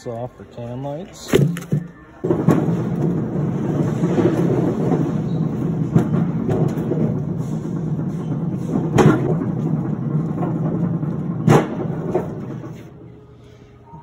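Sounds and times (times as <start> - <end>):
cart wheels rumbling on concrete: 1.4 - 13.0.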